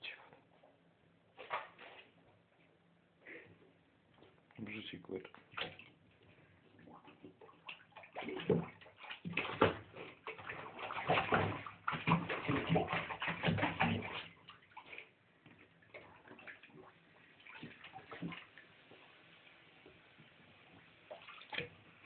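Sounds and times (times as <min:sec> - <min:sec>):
water sloshing in a bathtub: 0:00.0 - 0:22.0.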